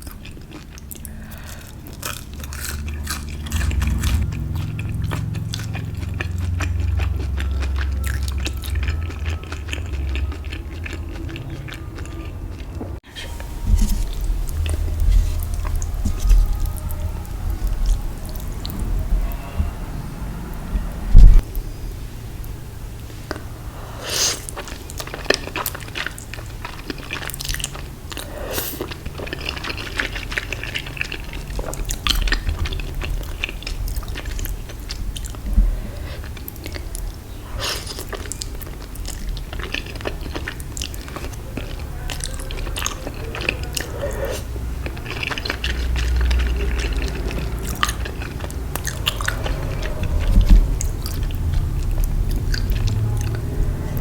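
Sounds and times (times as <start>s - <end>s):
person chewing food: 0.0s - 19.8s, 22.4s - 54.0s.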